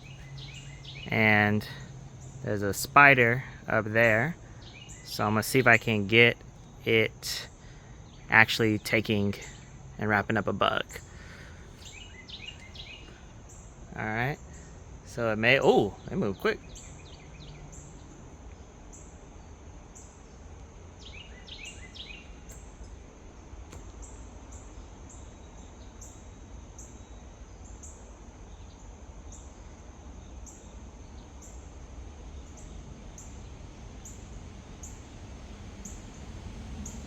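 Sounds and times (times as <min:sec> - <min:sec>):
low background rumble: 0:00.0 - 0:37.0.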